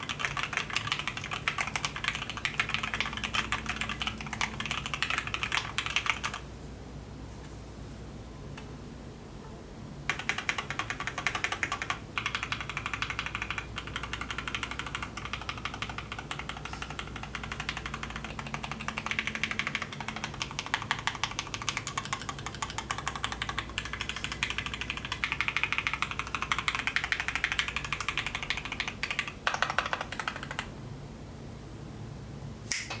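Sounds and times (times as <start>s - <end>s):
mechanical keyboard typing: 0.0s - 6.4s, 10.1s - 30.7s.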